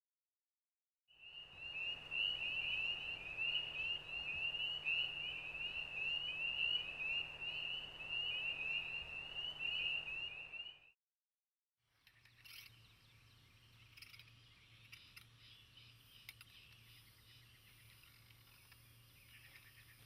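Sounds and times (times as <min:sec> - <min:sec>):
frogs peeping in chorus: 0:01.2 - 0:10.9, 0:12.0 - 0:20.0.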